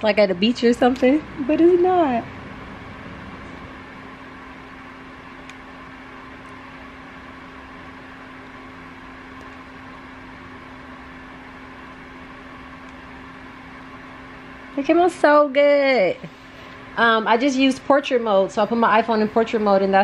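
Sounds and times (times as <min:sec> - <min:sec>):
electrical hum: 0:00.0 - 0:20.0
room noise: 0:00.0 - 0:20.0.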